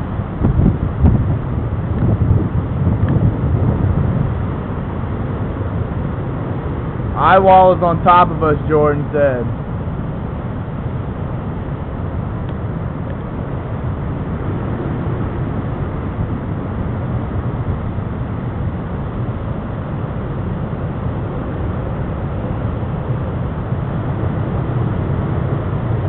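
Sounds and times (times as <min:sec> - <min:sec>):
strong wind buffeting microphone: 0:00.0 - 0:26.0.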